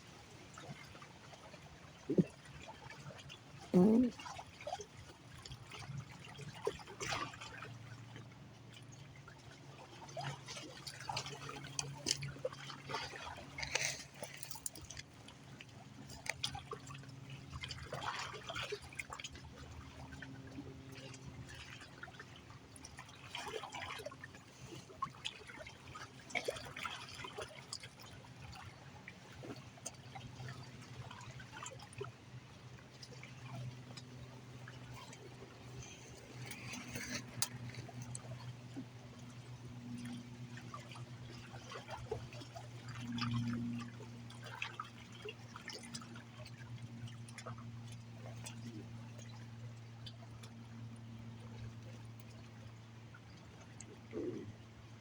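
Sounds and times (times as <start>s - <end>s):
water lapping and trickling: 0.0s - 55.0s
water splashes and drips: 0.2s - 54.8s.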